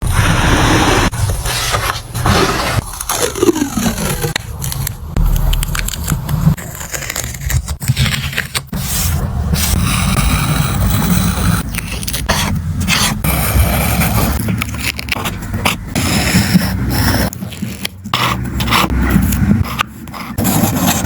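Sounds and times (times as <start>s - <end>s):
paper scraping and crackling: 0.1s - 21.0s.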